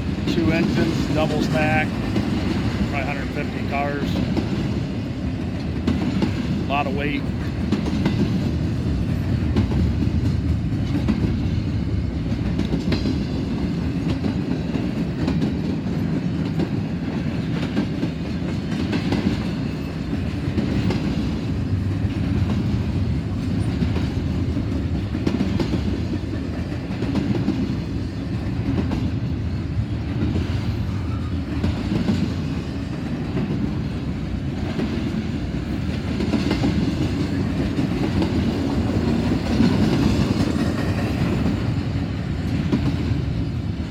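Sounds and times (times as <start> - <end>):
freight train rolling past: 0.0 - 43.9
wheels clacking over track: 0.0 - 43.9.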